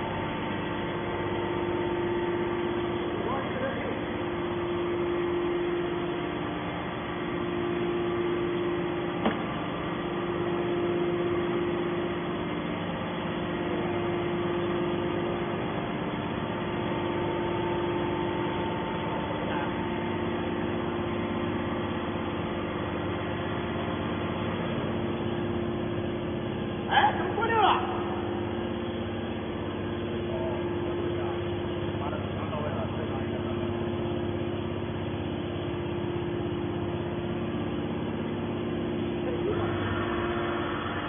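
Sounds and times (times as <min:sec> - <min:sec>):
hydraulic power unit humming: 0:00.0 - 0:41.0.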